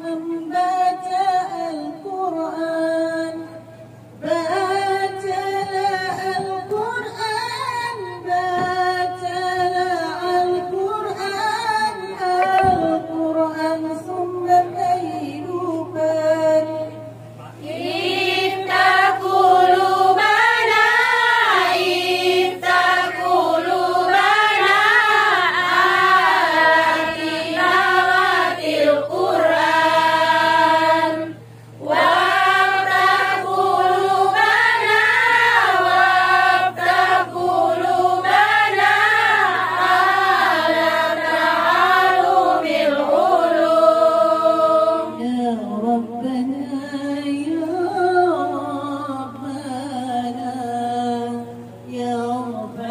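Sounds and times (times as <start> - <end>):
women singing unaccompanied: 0.0 - 52.9.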